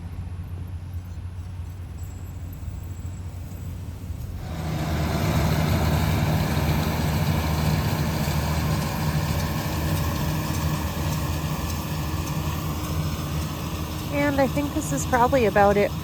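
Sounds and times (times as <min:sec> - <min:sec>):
tractor engine humming: 0:00.0 - 0:16.0.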